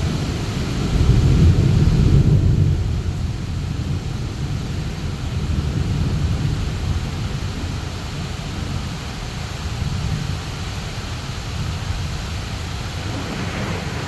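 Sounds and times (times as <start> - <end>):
heavy rain pouring: 0.0 - 14.0
low rumble of thunder: 0.0 - 14.0.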